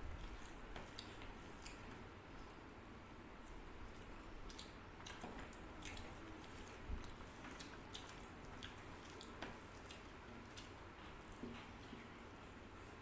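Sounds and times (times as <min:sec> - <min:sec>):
chewing: 0:00.1 - 0:02.6, 0:03.4 - 0:12.1.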